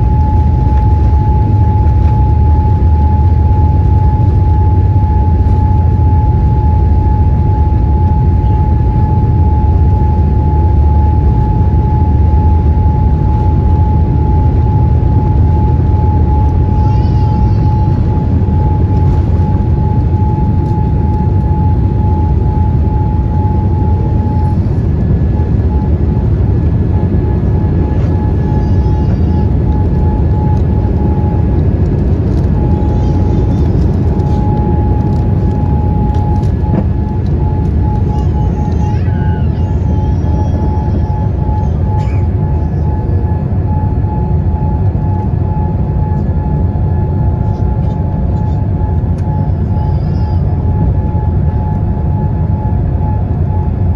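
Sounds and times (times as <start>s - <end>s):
airplane cabin rumble: 0.0s - 53.9s
jet engine whine: 0.0s - 53.9s.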